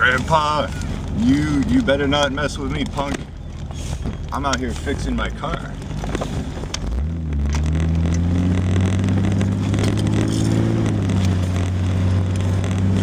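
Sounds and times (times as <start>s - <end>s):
car engine pulling away: 0.0s - 13.0s.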